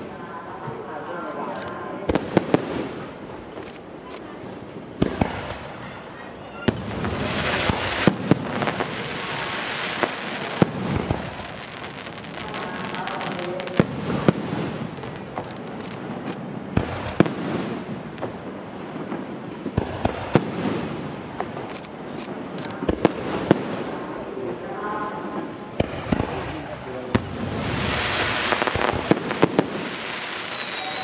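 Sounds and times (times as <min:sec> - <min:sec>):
continuous noisy rush: 0:00.0 - 0:31.0
firework bangs: 0:01.9 - 0:31.0.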